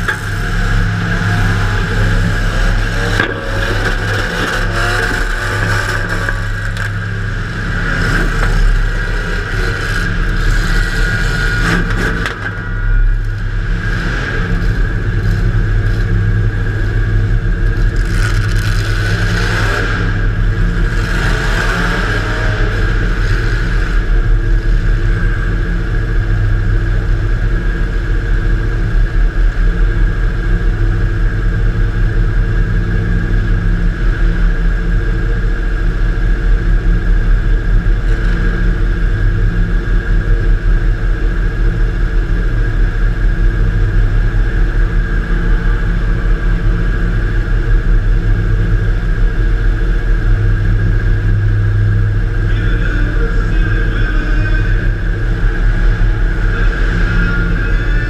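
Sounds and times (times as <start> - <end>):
car engine running loud: 0.0 - 58.0
constant high whine: 0.0 - 58.0.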